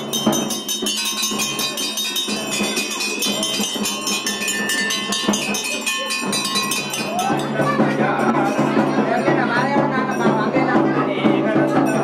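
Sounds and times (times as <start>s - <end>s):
temple bells rung rapidly: 0.0s - 12.0s.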